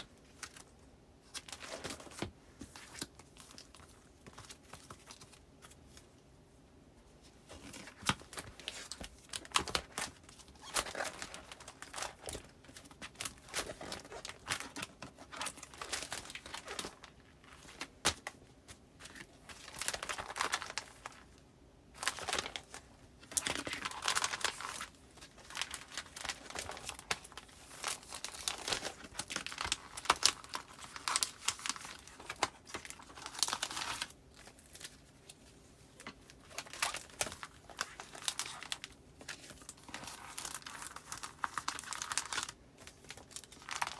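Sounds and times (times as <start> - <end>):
paper and plastic sleeves crinkling: 0.0 - 6.2, 7.2 - 43.9.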